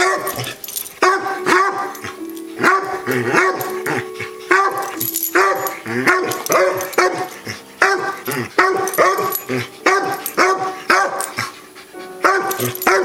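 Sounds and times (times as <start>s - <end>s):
dog barking in play: 0.0s - 11.5s, 12.2s - 13.0s.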